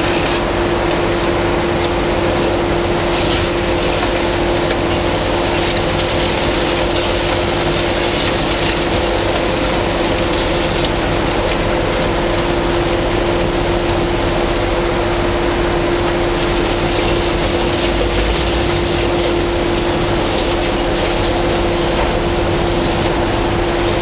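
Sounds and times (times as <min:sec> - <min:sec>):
excavator diesel engine drone: 0:00.0 - 0:24.0
masonry crackling and falling: 0:01.2 - 0:14.5, 0:16.0 - 0:24.0.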